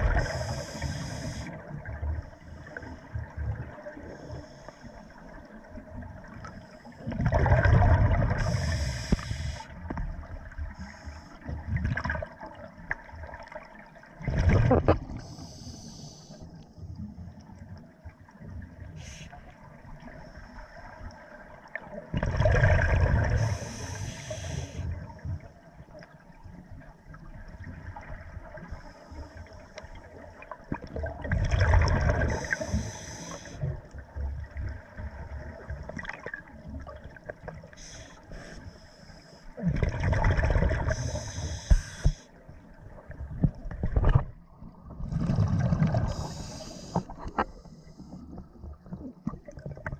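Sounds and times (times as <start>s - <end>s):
low underwater wash: 0.0s - 49.9s
underwater bubbles gurgling: 0.0s - 49.9s.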